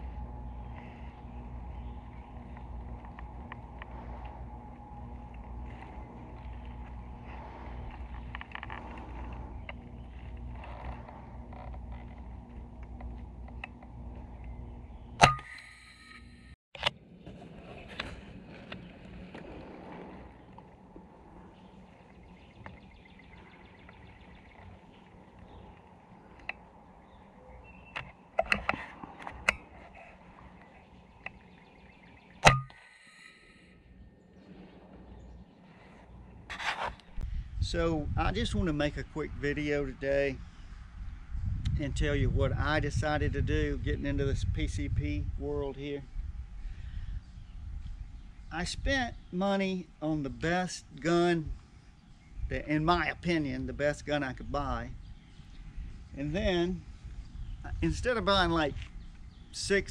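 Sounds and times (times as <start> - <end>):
low outdoor background: 0.0 - 59.9.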